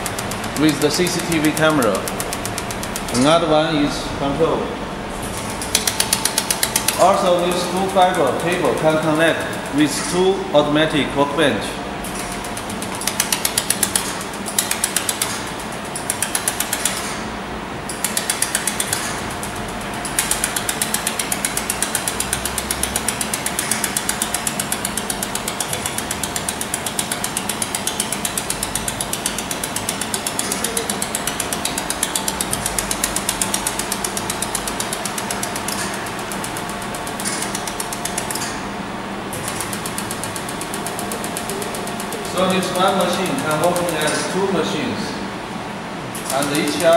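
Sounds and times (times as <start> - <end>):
laser welder ticking buzz: 0.0 - 3.4, 5.1 - 10.8, 12.0 - 44.6, 46.1 - 46.9
steady machine hum: 0.0 - 46.9.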